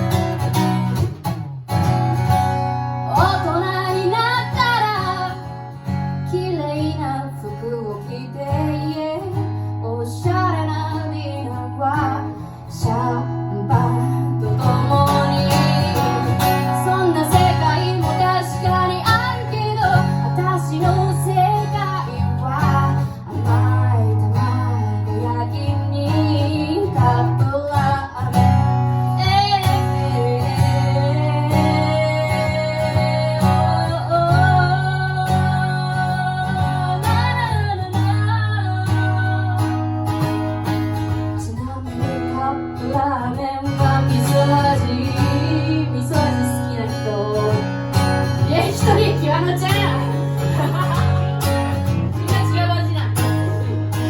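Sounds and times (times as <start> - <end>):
strummed acoustic guitar: 0.0 - 54.0
woman singing: 3.0 - 54.0.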